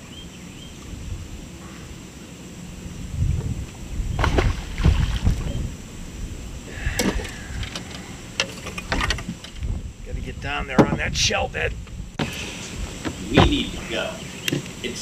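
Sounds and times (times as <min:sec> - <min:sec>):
wind buffeting microphone: 0:00.7 - 0:14.8.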